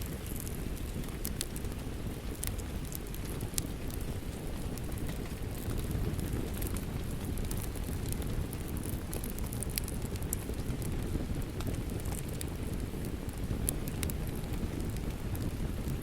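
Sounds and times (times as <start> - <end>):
steady rain: 0.0 - 16.0
wood fire crackling and popping: 0.0 - 16.0.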